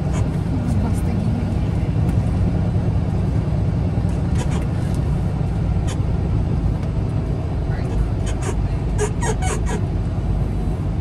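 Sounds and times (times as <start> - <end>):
road noise inside cab: 0.0 - 11.0
truck engine rumble: 0.0 - 11.0.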